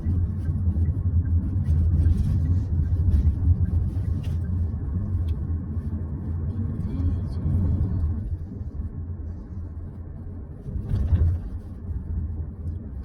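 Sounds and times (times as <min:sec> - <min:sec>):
road and tyre rumble in car: 0:00.0 - 0:13.0.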